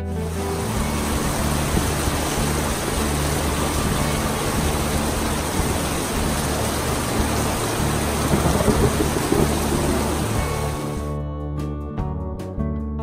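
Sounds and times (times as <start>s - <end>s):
heavy rain falling: 0.1s - 11.1s
low rumble: 0.3s - 11.1s.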